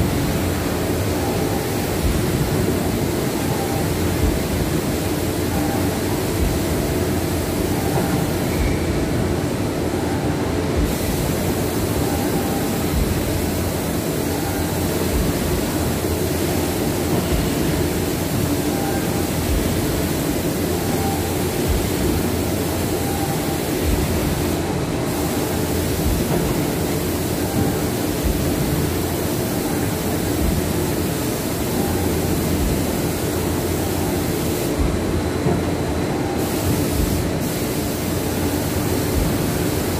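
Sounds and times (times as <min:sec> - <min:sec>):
loud mechanical running noise: 0:00.0 - 0:39.9.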